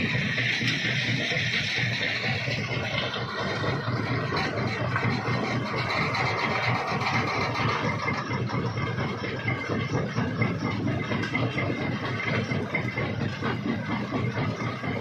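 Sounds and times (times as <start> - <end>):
jaw crusher rumbling: 0.1 - 15.0.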